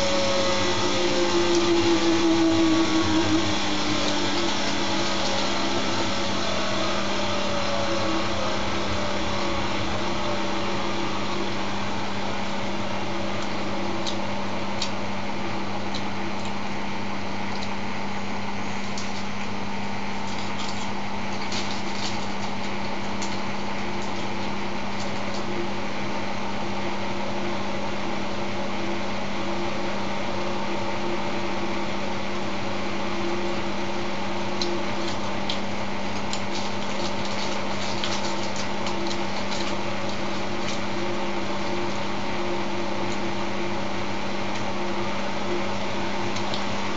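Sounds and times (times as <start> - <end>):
washing machine motor hum: 0.0 - 46.9.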